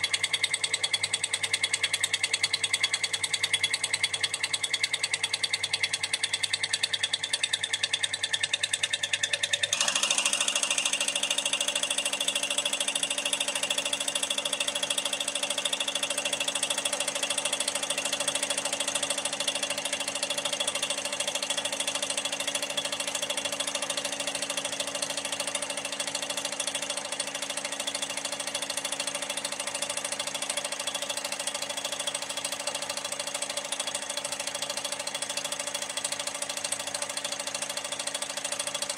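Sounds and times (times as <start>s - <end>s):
mechanical clatter of injector: 0.0s - 38.9s
steady motor hum: 0.0s - 38.9s.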